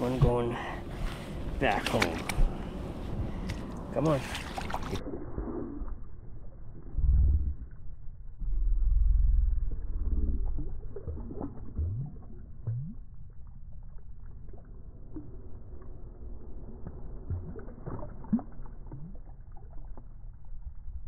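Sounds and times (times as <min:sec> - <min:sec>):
water lapping and gurgling: 0:00.3 - 0:07.9, 0:09.7 - 0:21.0
water swirl: 0:00.8 - 0:07.0, 0:09.6 - 0:21.0.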